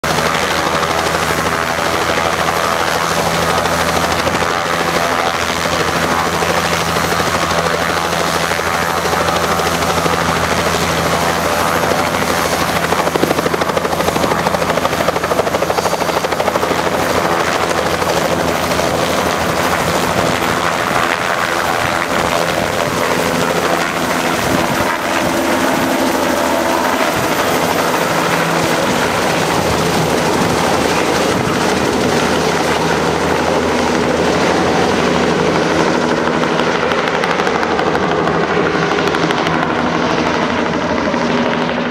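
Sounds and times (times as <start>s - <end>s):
helicopter rotor turning: 0.0s - 41.9s
high turbine whine: 0.1s - 41.9s.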